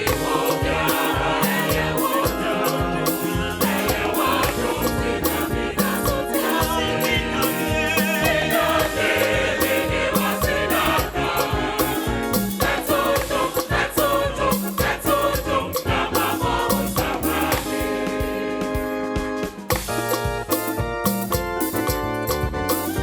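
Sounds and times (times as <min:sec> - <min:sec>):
gospel choir singing: 0:00.0 - 0:19.6
band accompaniment: 0:00.0 - 0:23.0
steady drum beat: 0:00.0 - 0:23.0.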